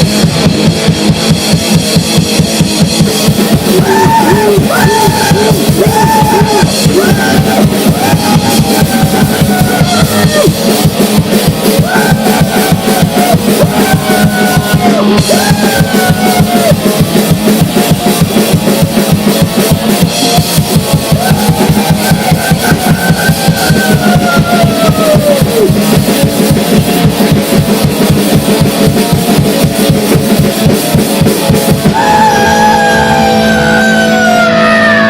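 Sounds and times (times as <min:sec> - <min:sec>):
noise band playing loud and fast: 0:00.0 - 0:35.0
rapid drumming: 0:00.0 - 0:35.0.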